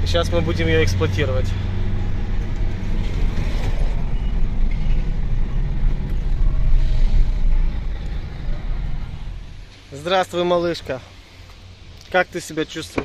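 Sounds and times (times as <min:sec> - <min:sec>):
van engine drone: 0:00.0 - 0:12.9
road rumble: 0:00.0 - 0:13.0.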